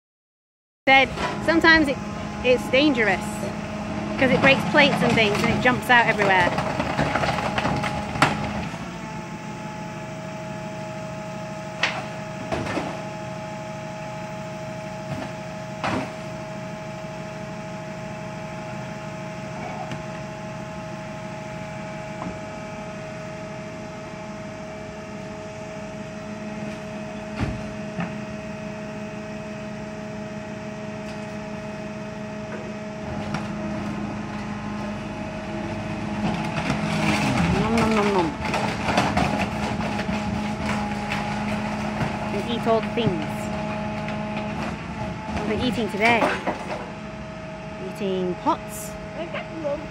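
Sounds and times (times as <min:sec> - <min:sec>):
garbage truck hum and whine: 0:00.9 - 0:49.9.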